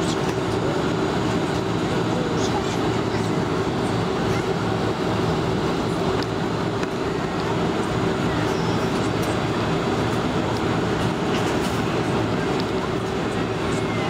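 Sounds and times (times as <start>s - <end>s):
jet engines heard from cabin: 0.0s - 14.0s.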